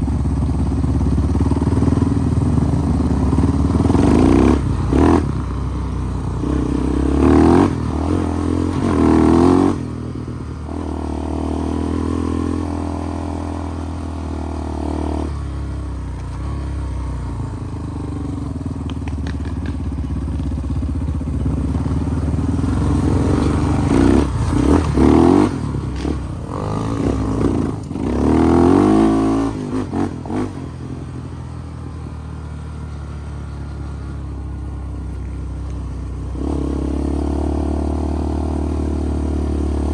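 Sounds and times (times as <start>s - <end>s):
off-road vehicle engine revving: 1.4s - 20.0s, 21.4s - 39.9s.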